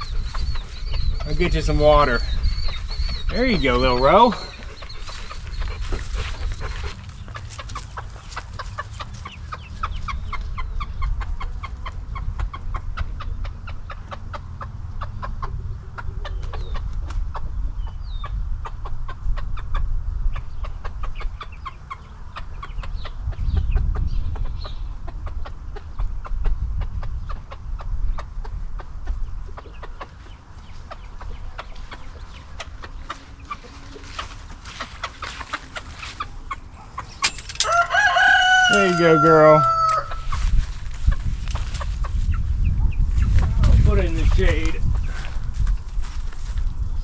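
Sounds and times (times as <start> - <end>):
hen clucking: 0.0 - 45.0
chicks peeping: 0.0 - 47.0.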